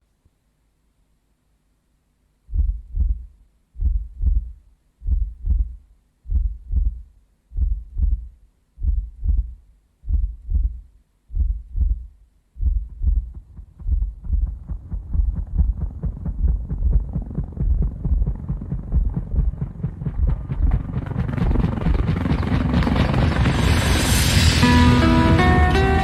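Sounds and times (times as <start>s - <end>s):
heartbeat thumps: 2.5s - 23.5s.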